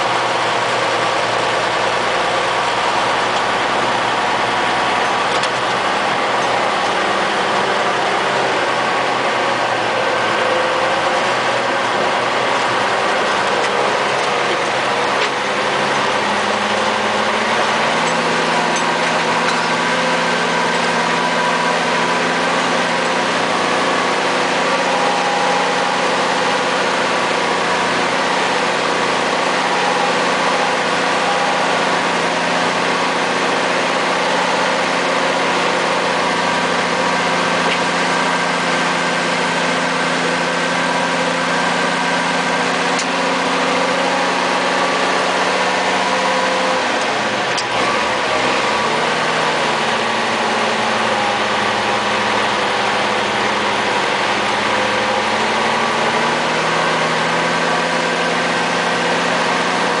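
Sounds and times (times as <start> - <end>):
truck engine running: 0.0 - 60.0.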